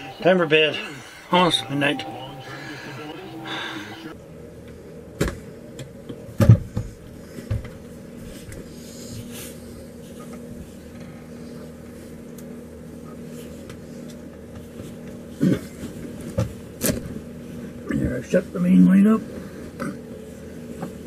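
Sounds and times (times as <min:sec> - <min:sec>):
furnace blower humming: 0:00.0 - 0:21.0.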